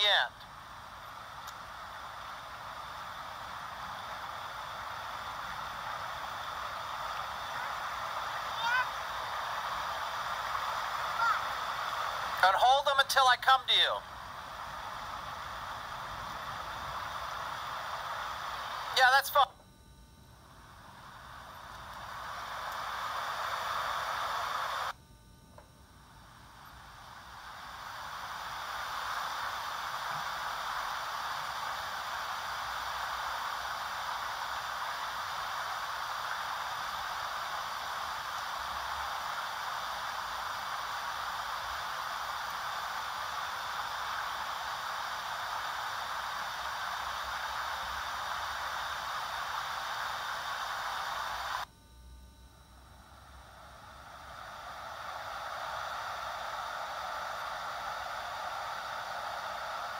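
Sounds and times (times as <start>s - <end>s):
tape playback hiss: 0.0s - 59.9s.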